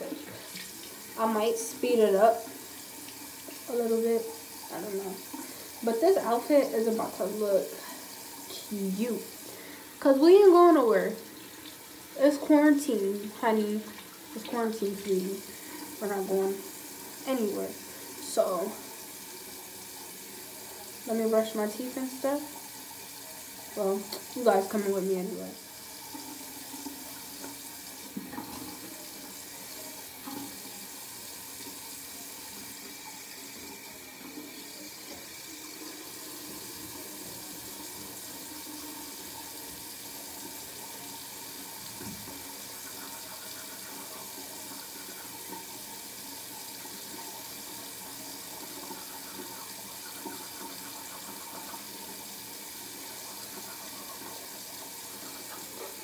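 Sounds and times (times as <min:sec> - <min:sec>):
sink tap running: 0:00.0 - 0:56.0.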